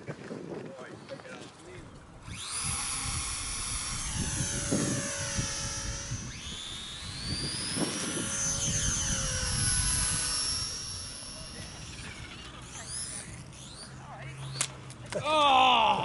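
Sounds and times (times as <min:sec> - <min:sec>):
model plane motor whining: 0:02.0 - 0:15.0.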